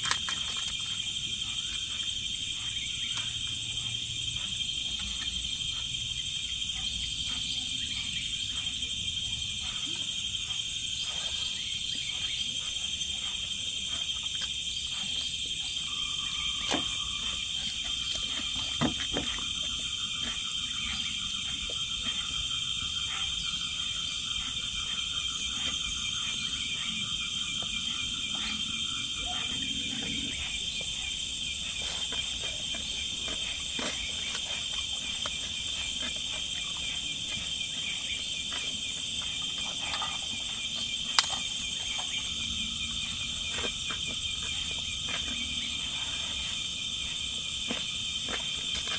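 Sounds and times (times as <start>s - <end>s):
shrill insect chorus: 0.0s - 48.9s.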